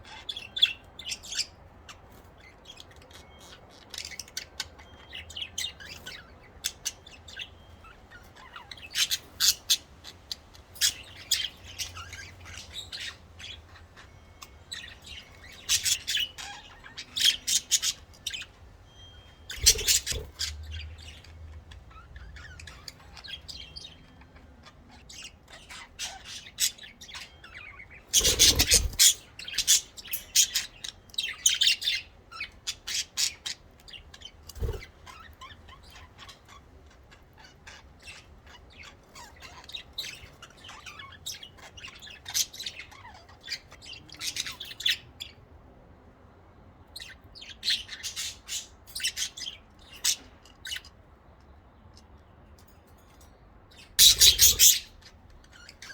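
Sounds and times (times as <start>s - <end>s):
budgerigars chirping and chattering: 0.0s - 45.6s, 46.8s - 55.9s.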